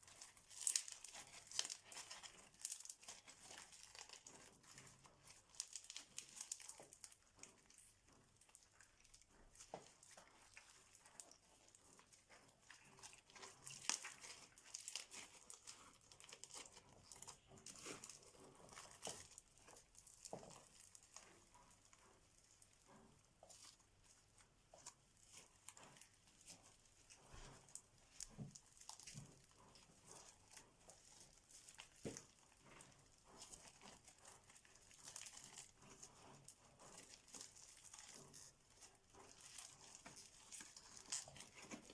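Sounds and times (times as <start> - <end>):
slime crackling and popping: 0.0 - 7.8, 8.4 - 21.2, 24.8 - 32.5, 33.1 - 41.9.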